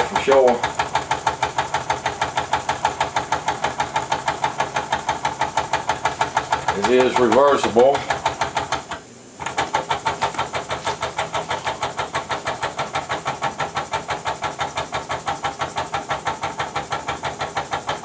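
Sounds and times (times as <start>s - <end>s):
toy steam engine puffing: 0.0s - 18.0s.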